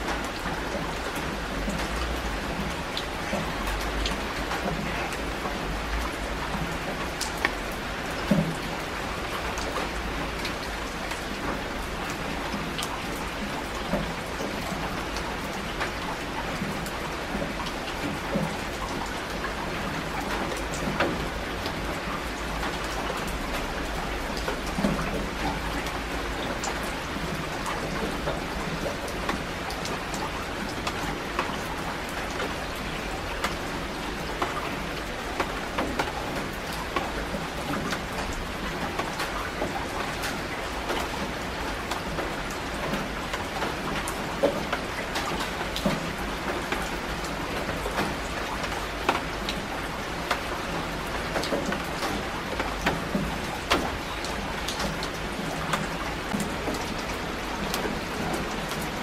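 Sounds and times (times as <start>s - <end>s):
rain hissing on water: 0.0s - 59.0s
raindrop splashes: 0.0s - 59.0s.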